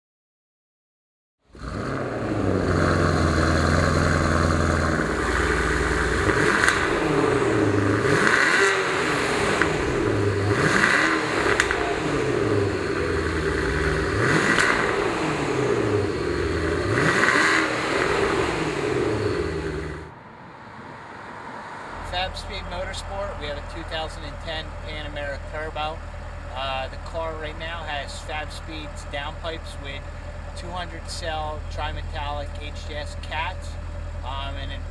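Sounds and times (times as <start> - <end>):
car engine idling and revving: 1.4 - 34.9.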